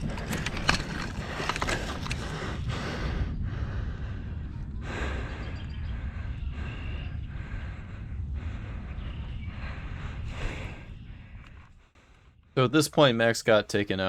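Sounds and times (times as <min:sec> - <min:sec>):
person breathing hard: 0:00.0 - 0:12.6
wind rumbling on microphone: 0:00.0 - 0:12.6.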